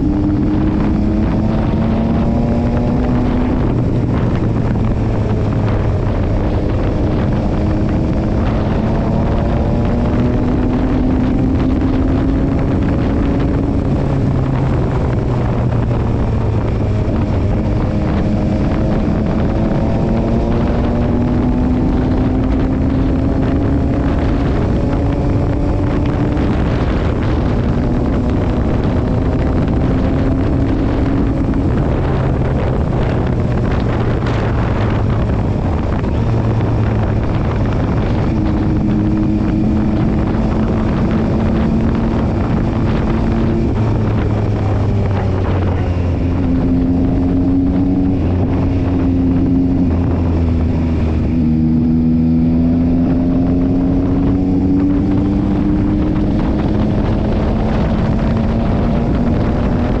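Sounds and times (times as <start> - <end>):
motorcycle engine running: 0.0 - 60.0
wind noise on microphone: 0.0 - 60.0.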